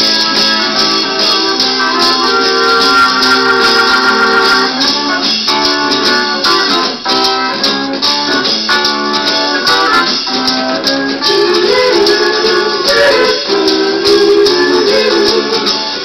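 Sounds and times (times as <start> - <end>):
heavy psychedelic rock music: 0.0 - 16.0.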